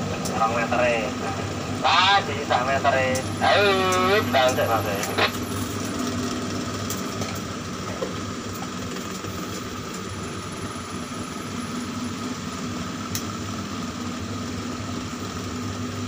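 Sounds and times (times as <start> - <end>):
crane machinery humming with whine: 0.0 - 16.0.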